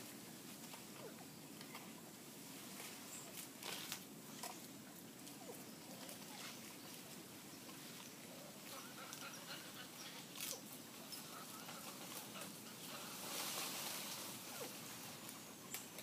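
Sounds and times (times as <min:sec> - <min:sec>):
leaves rustling: 0:00.0 - 0:16.0.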